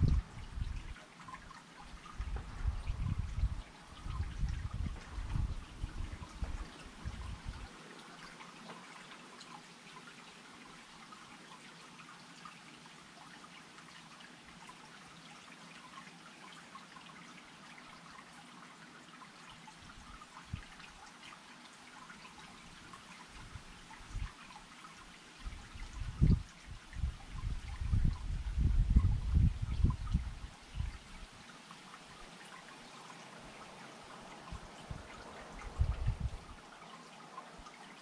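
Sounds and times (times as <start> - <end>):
water trickling and dripping: 0.0 - 38.0.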